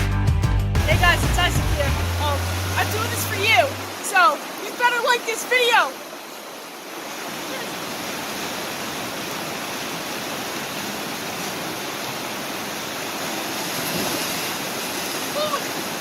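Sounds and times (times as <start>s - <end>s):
stream rushing: 0.8s - 16.0s.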